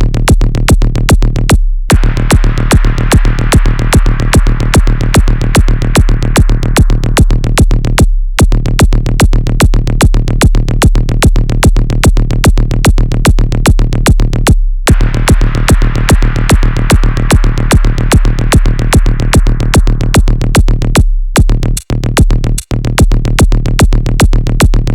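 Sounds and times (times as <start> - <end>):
sustained deep bass: 0.0 - 24.9
drum machine beat: 0.2 - 24.9.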